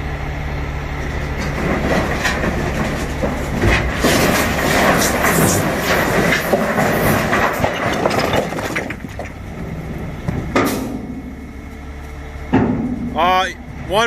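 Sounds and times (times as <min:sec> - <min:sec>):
low engine hum: 0:00.0 - 0:14.0
rocks clattering against metal: 0:01.0 - 0:11.8, 0:12.5 - 0:13.6.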